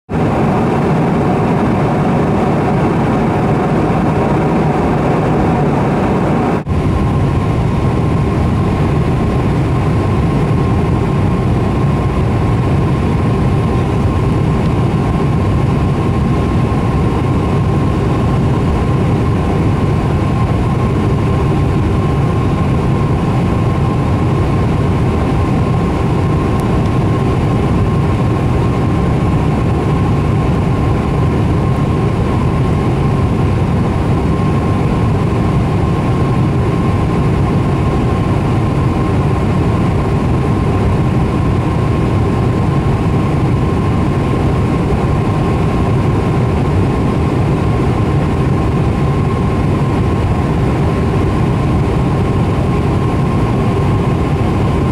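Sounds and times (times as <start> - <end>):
airliner engine drone: 0.1 - 54.9.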